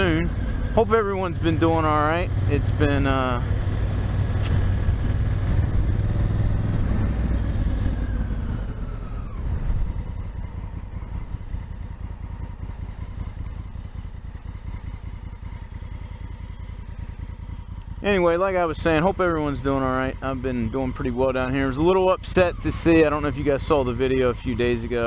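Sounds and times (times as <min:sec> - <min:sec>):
motorcycle engine slowing to idle: 0:00.0 - 0:25.0.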